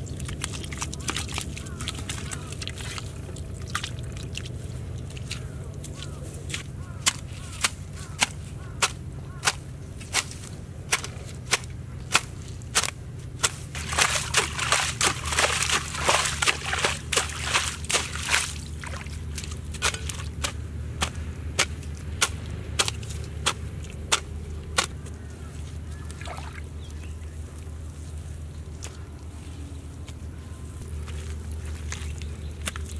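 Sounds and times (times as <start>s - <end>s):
hands slapping muddy water: 0.0s - 29.7s, 30.8s - 32.9s.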